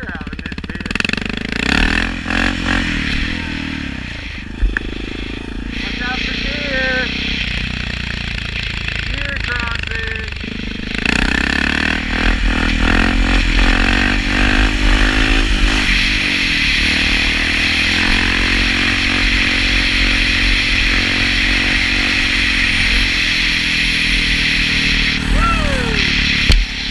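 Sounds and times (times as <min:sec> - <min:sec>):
dirt bike engine accelerating: 0:00.0 - 0:26.9.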